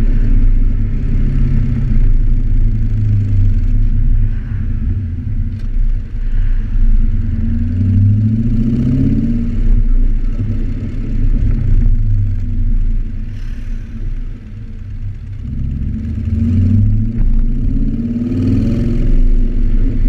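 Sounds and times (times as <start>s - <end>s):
car exhaust at low speed: 0.0s - 20.0s.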